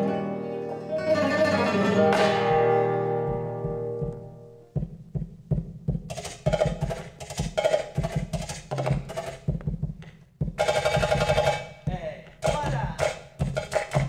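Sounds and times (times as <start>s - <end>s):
flamenco percussion knocks: 1.5s - 14.0s.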